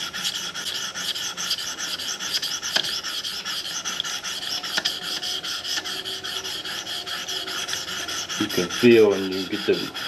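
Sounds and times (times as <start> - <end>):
sharpening stone scraping knife: 0.0 - 10.0.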